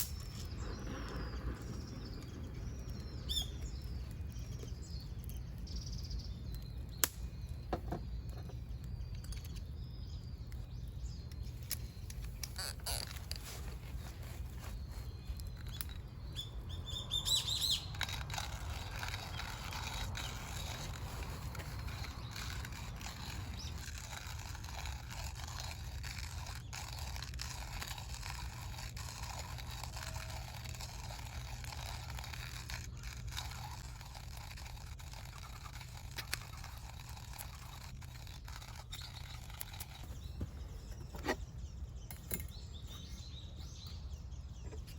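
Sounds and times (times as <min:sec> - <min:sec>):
bird chirping: 0:00.0 - 0:44.9.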